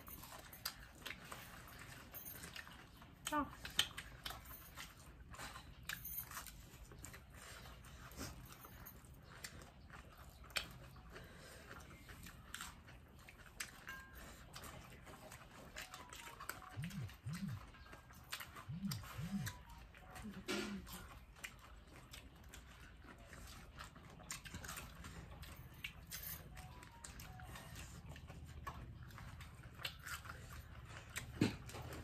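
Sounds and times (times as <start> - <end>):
chewing and crunching: 0.0 - 32.0.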